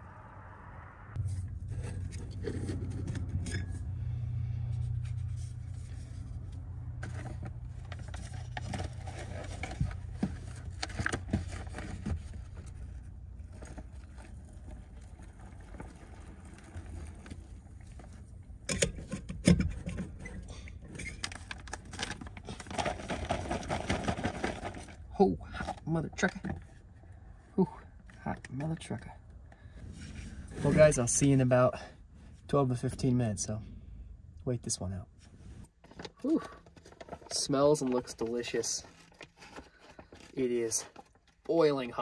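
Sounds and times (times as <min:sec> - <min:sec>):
low steady rumble: 0:00.0 - 0:35.9.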